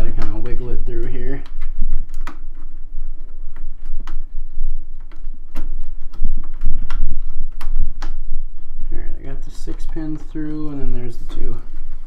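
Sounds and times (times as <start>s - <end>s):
cable clicking and rubbing: 0.0s - 12.0s.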